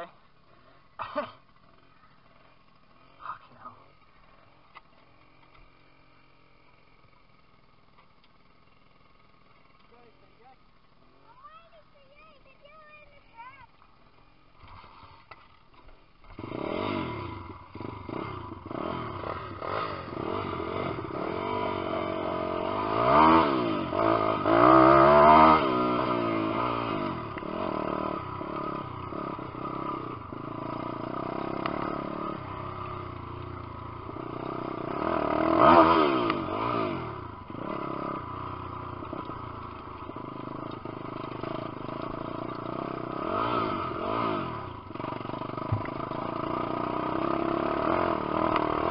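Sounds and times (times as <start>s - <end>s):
motorbike engine revving: 0.0s - 48.9s.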